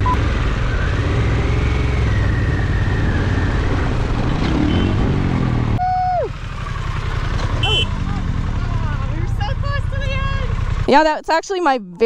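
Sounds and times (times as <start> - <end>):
motorcycle engine low rumble: 0.0 - 11.2.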